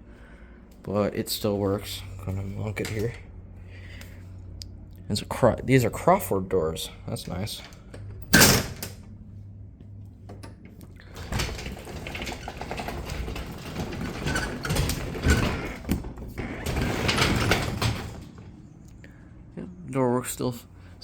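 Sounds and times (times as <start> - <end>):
garage door rollers rumbling: 0.9 - 4.5, 5.1 - 9.4, 10.1 - 19.3.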